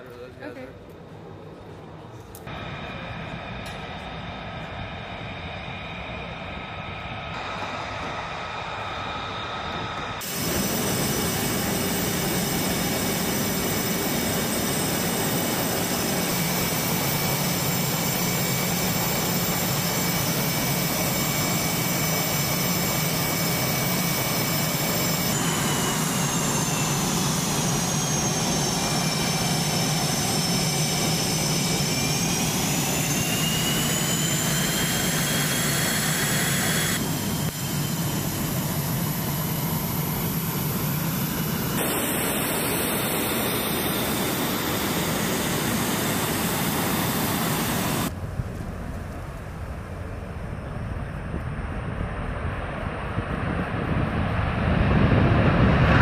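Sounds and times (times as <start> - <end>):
high engine whines: 0.0 - 56.0
jet engines rushing: 1.0 - 56.0.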